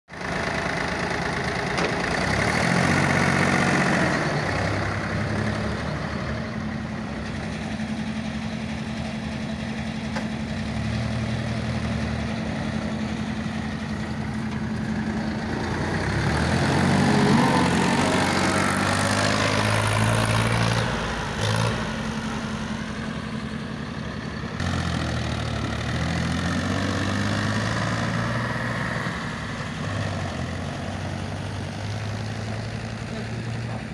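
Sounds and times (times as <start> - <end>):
tractor diesel engine revving: 0.1 - 33.9.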